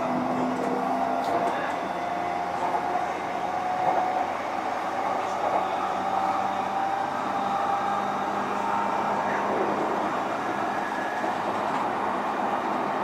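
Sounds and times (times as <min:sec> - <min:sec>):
electric train motor whine: 0:00.0 - 0:13.0
wheel and rail noise: 0:00.0 - 0:13.0.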